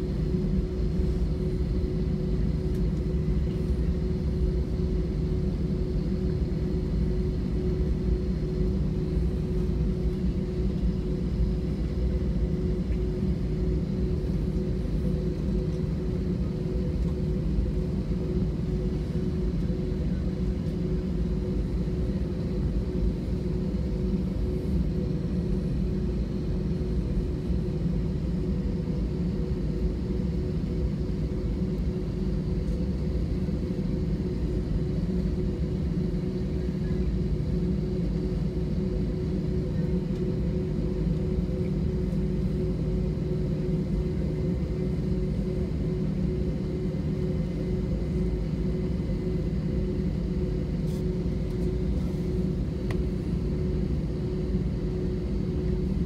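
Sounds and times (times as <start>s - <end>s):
jet engines idling rumble: 0.0s - 56.0s.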